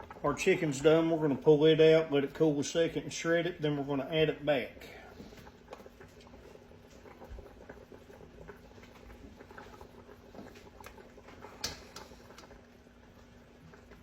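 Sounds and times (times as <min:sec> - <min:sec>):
soup simmering and popping: 0:00.0 - 0:14.0.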